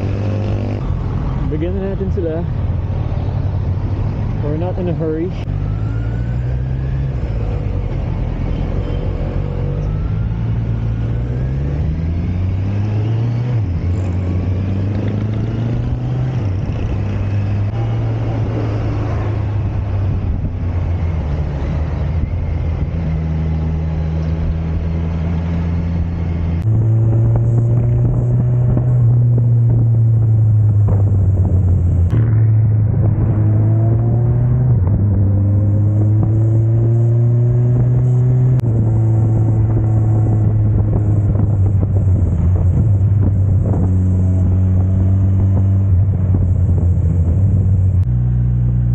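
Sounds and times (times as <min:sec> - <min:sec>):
motorcycle engine revving: 0:00.0 - 0:03.4, 0:04.5 - 0:48.9.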